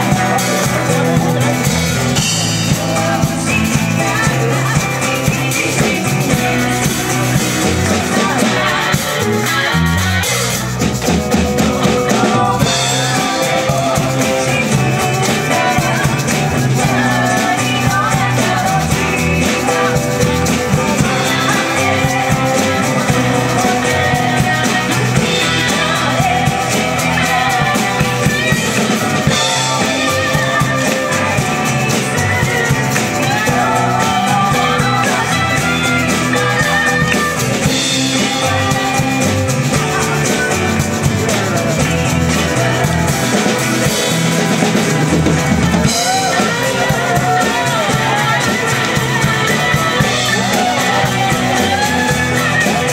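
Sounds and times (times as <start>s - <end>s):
women singing together: 0.0s - 10.6s, 11.5s - 52.9s
live folk-rock band playing: 0.0s - 52.9s.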